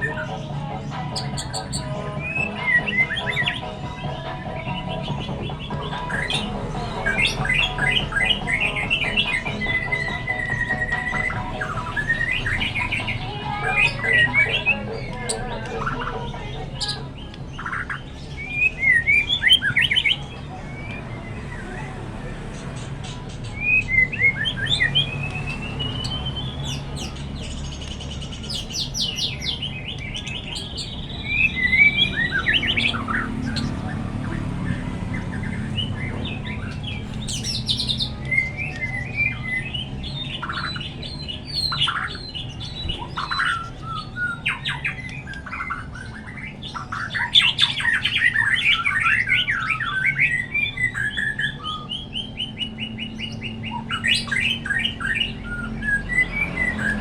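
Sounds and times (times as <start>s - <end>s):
bird singing whistles and trills: 0.0s - 22.6s, 23.4s - 57.0s.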